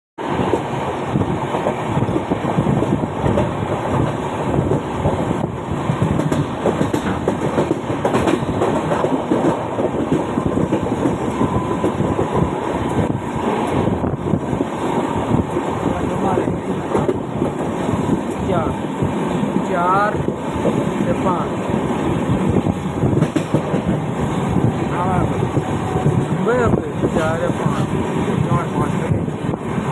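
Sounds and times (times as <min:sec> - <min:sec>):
train running on track: 0:00.2 - 0:29.9.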